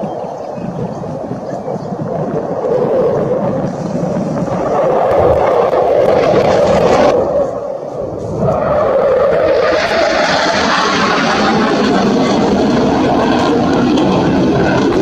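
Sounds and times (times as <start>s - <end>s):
jet fighter engine roar: 0.0s - 15.0s.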